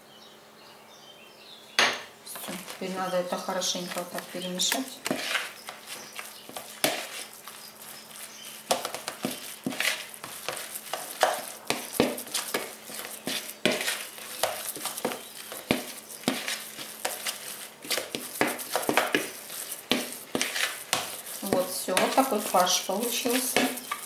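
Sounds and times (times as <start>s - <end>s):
meat filling squishing by hand: 2.3s - 24.0s.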